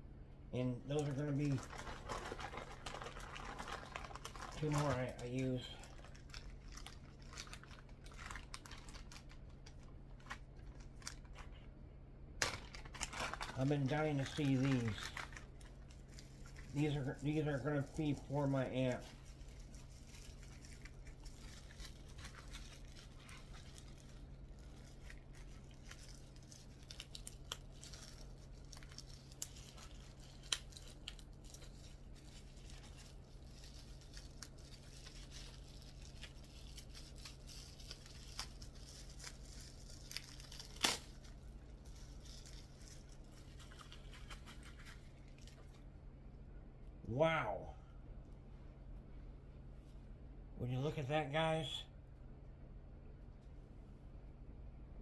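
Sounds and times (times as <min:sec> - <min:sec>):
low steady hum: 0:00.0 - 0:55.0
packaging tearing and crinkling: 0:00.9 - 0:11.7, 0:12.4 - 0:45.8.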